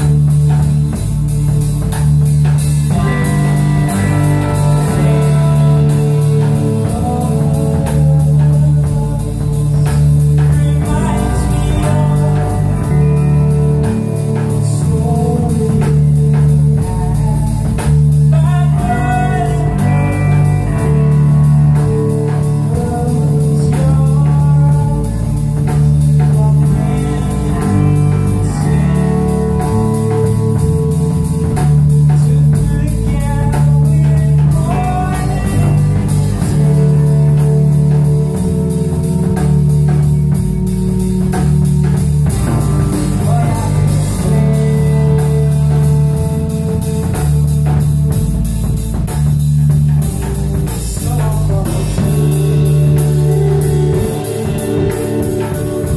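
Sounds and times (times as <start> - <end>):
live band playing: 0.0 - 55.9
man singing: 2.9 - 40.3, 42.4 - 47.9, 49.6 - 55.9.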